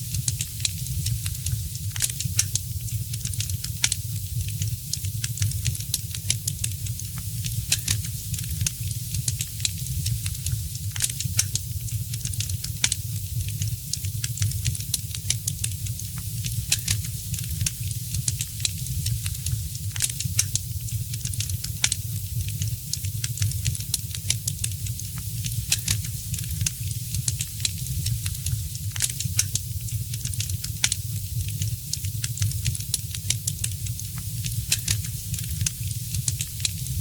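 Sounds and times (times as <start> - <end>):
fire crackling and popping: 0.0 - 37.0
steady hiss: 0.0 - 37.0.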